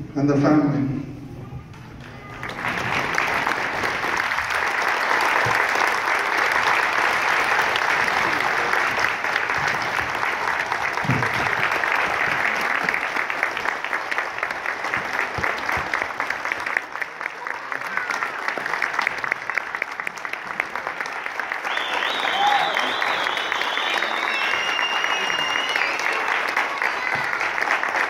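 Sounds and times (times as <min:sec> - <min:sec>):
audience applauding: 0:02.0 - 0:28.0.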